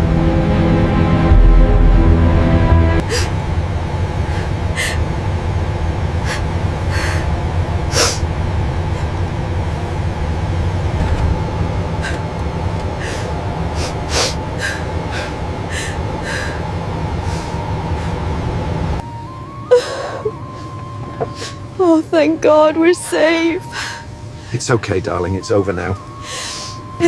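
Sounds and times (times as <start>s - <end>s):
airliner drone in flight: 0.0s - 27.0s.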